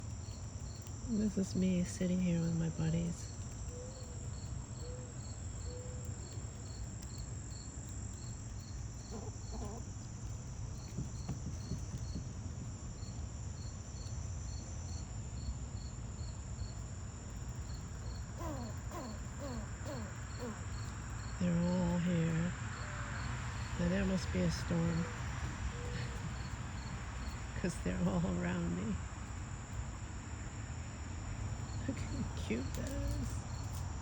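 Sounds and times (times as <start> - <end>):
high constant buzz: 0.0 - 34.0
insects chirping: 0.0 - 34.0.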